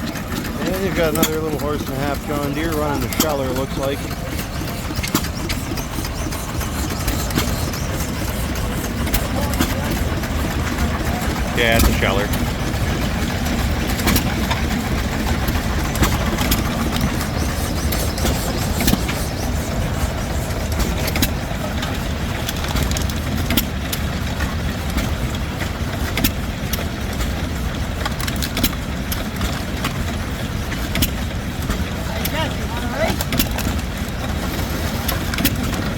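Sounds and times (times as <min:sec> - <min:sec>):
stationary engine exhaust pops: 0:00.0 - 0:32.4
low engine rumble: 0:00.0 - 0:35.9.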